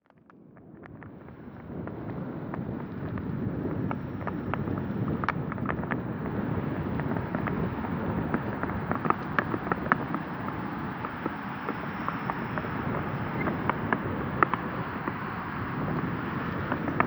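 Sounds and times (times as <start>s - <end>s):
small clicks and rattles: 0.0s - 17.0s
wind buffeting microphone: 0.4s - 17.0s.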